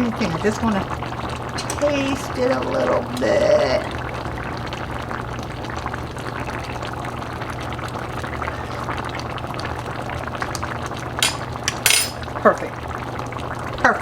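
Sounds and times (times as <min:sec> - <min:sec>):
pot bubbling at a simmer: 0:00.0 - 0:14.0.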